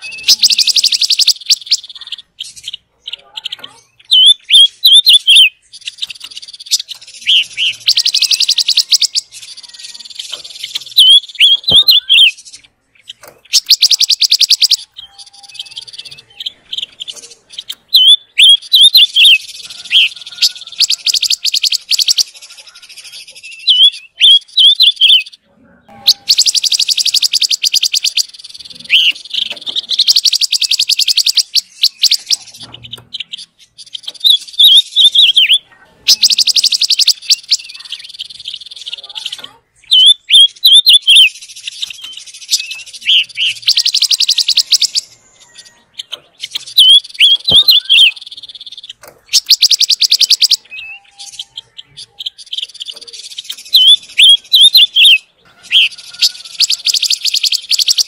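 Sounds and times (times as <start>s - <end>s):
bird warbling and chattering: 0.0s - 58.0s.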